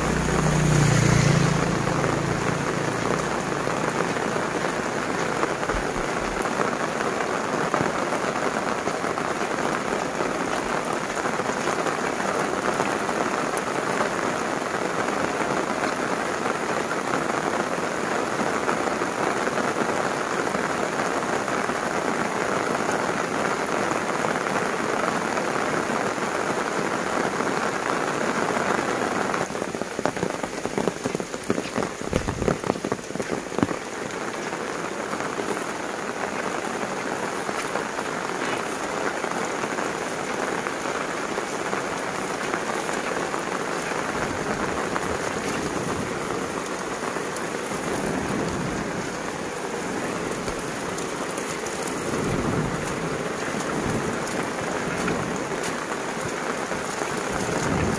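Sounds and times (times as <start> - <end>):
close raindrop impacts: 0.0 - 57.9
heavy rain hissing: 0.0 - 57.9.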